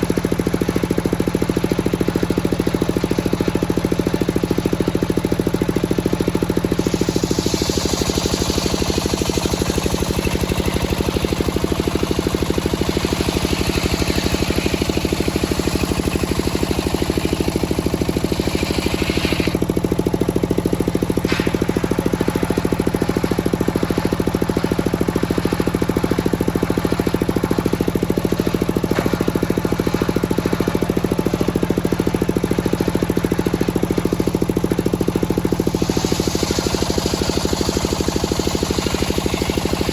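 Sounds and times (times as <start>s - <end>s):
sawmill engine running: 0.0s - 39.9s
circular saw cutting log: 5.7s - 39.9s.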